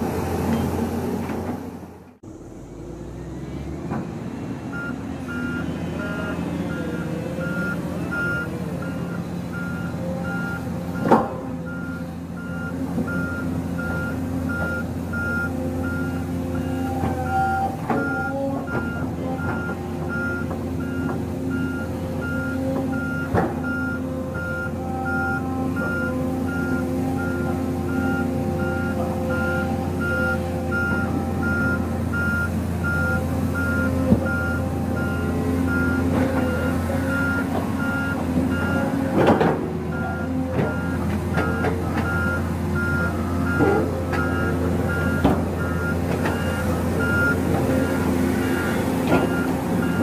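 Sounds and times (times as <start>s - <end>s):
diesel engine running: 0.0s - 50.0s
travel alarm beeping: 7.4s - 10.6s, 11.7s - 38.8s, 40.0s - 50.0s.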